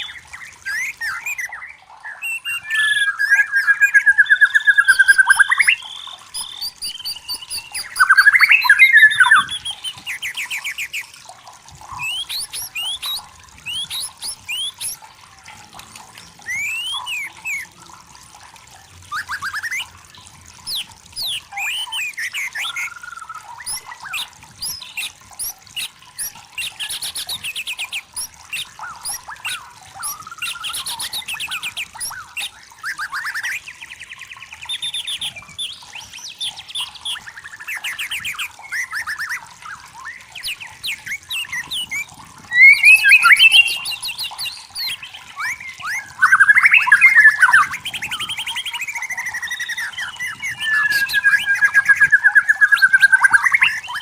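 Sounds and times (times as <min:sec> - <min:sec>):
bird singing varied song: 0:00.0 - 0:11.2, 0:11.8 - 0:15.1, 0:16.1 - 0:17.9, 0:19.1 - 0:54.0.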